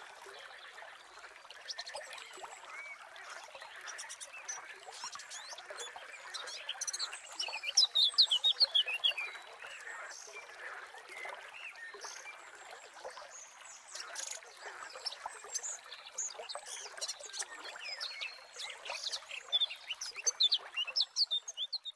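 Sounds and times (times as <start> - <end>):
trickling water: 0.0 - 21.9.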